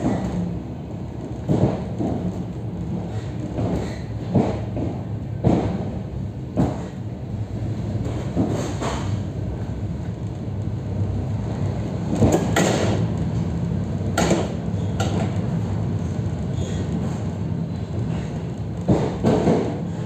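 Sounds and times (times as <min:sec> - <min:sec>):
train interior rumble: 0:00.0 - 0:20.0.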